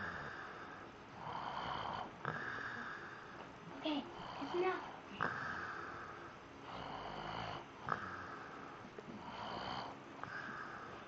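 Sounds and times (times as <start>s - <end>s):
man snoring: 0.0s - 3.2s, 4.2s - 8.6s, 9.2s - 10.9s.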